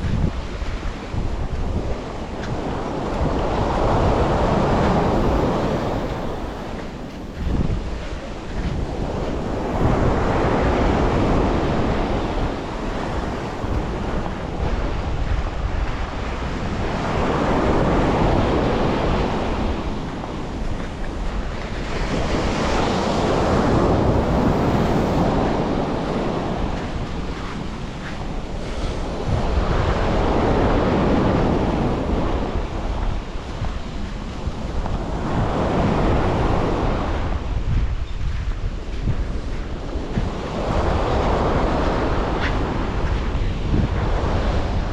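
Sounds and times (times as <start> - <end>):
sea waves breaking on beach: 0.0 - 44.9
wind buffeting microphone: 0.0 - 44.9.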